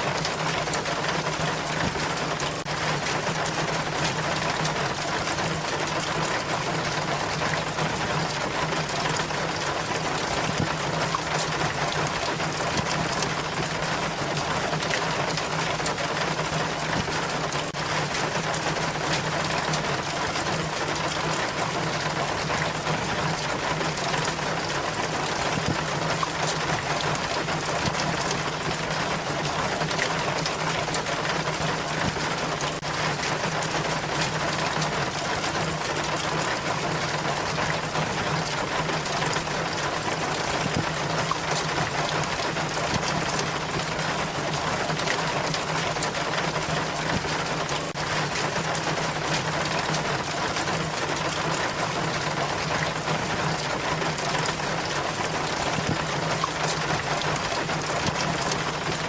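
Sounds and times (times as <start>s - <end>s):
rainwater splashing down rain chain: 0.0s - 59.0s.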